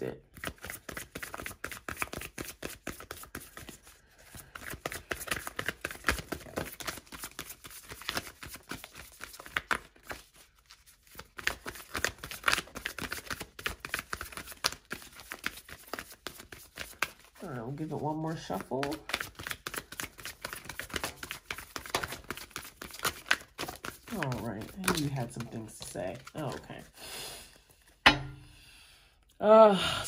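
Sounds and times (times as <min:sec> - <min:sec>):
cards being shuffled: 0:00.3 - 0:26.9.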